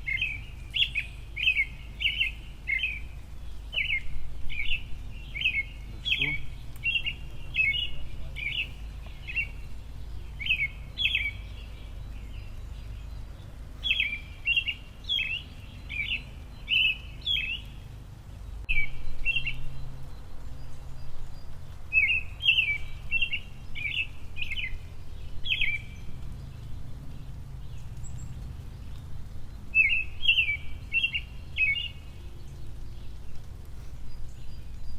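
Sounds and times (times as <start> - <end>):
small songbirds chirping: 0.0 - 34.9
steady low rumble: 0.0 - 34.9.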